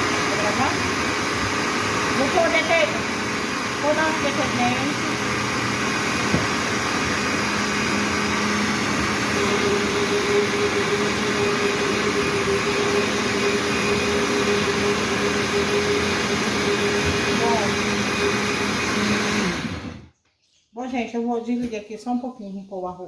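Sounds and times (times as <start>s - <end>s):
blender motor running: 0.0s - 20.1s.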